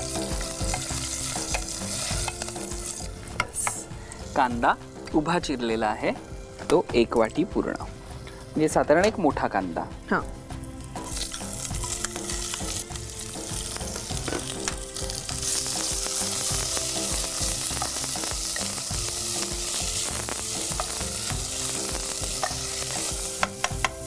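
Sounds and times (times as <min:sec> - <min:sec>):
onion sizzling in hot oil: 0:00.0 - 0:24.0.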